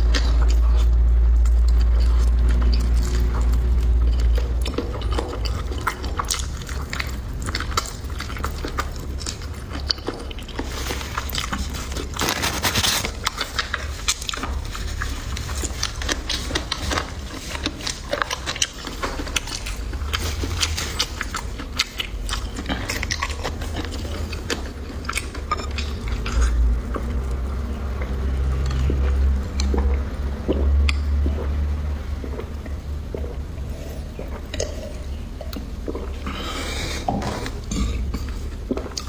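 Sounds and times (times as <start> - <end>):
chewing crunchy food: 0.0 - 39.0.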